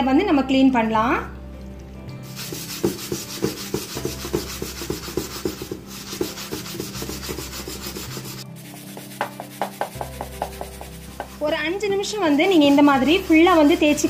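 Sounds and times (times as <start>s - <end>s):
steel wool scrubbing metal pan: 2.2s - 14.0s.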